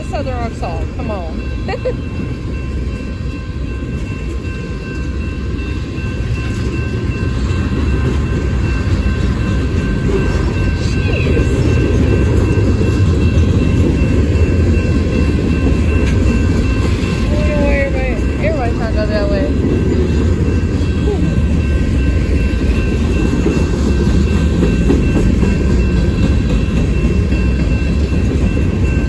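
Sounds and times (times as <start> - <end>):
train rolling past: 0.0 - 29.0.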